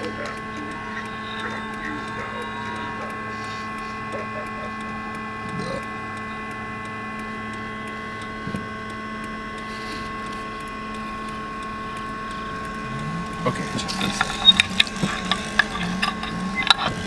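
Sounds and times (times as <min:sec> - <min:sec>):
steady hum of held tones: 0:00.0 - 0:17.0.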